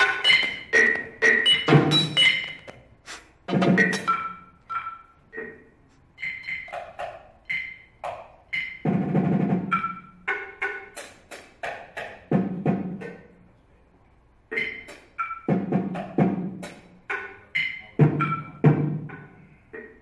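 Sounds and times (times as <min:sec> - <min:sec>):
percussion knocks and clicks: 0:00.0 - 0:02.9, 0:03.5 - 0:05.6, 0:06.2 - 0:13.4, 0:14.5 - 0:20.0.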